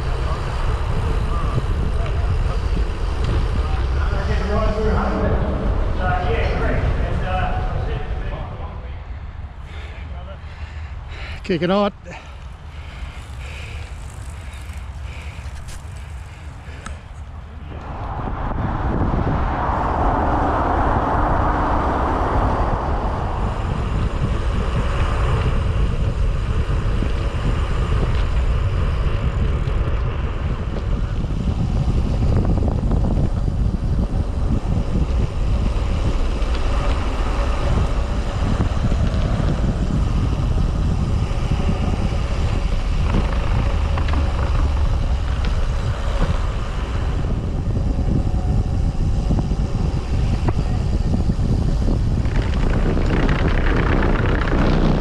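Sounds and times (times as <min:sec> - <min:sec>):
bicycle tyre and road noise: 0:00.0 - 0:55.0
wind rumbling on microphone: 0:00.0 - 0:55.0.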